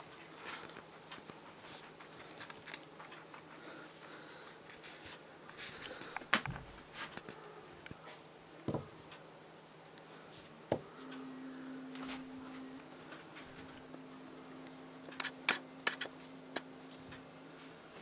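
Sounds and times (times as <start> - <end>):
rabbit paws scratching and tapping: 0.0 - 11.3, 12.0 - 18.0.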